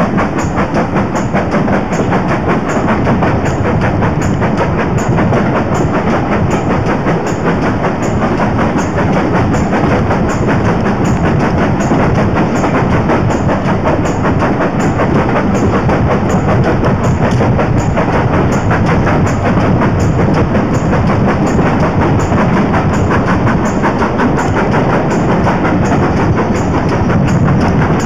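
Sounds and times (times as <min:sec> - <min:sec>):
regular ticking: 0:00.0 - 0:28.0
train rumble: 0:00.0 - 0:28.0
wind on microphone: 0:00.0 - 0:28.0.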